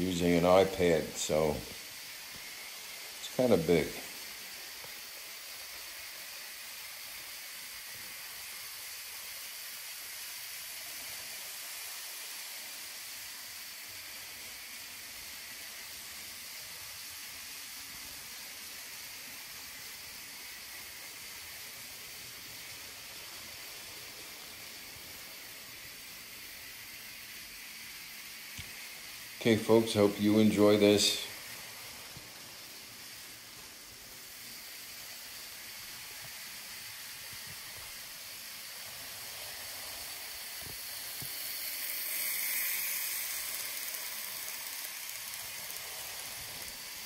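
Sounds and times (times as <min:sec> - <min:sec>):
recording hiss: 0:00.0 - 0:47.0.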